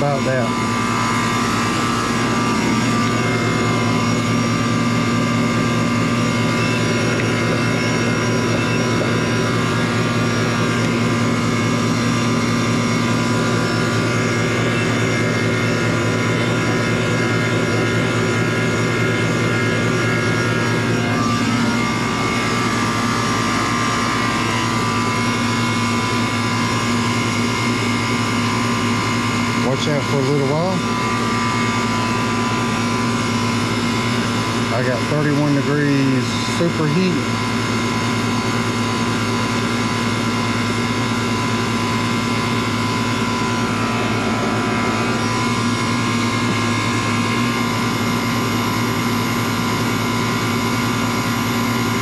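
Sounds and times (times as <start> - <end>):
compressor hum: 0.0 - 52.0
condenser fan noise: 0.0 - 52.0.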